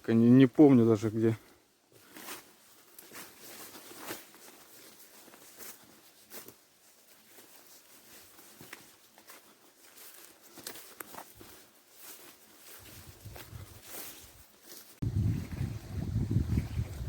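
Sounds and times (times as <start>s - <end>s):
rustling undergrowth: 0.1s - 17.0s
footsteps in undergrowth: 1.2s - 15.0s.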